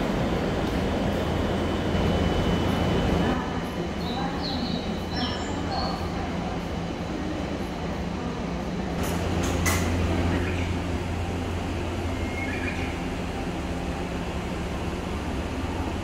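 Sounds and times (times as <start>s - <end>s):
electric train hum: 0.0s - 16.0s.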